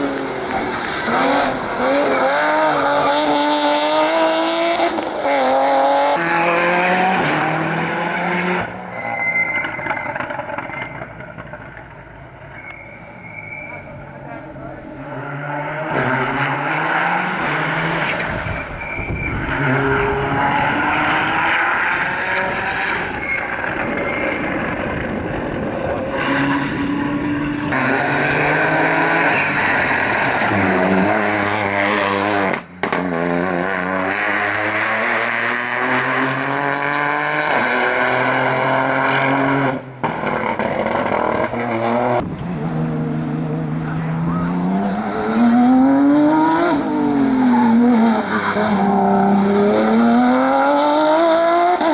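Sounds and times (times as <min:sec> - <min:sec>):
rally car engines at full throttle: 0:00.0 - 0:51.9.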